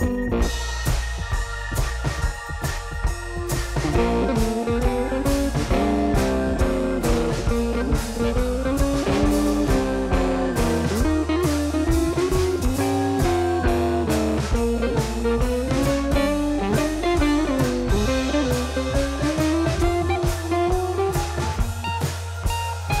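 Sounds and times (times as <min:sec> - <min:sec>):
instrumental music with sliding melody: 0:00.0 - 0:23.0.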